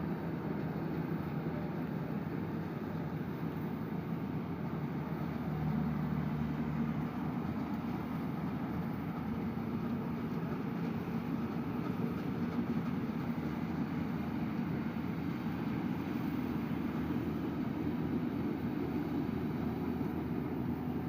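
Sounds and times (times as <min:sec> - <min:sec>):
harvesting machine engine drone: 0:00.0 - 0:21.0.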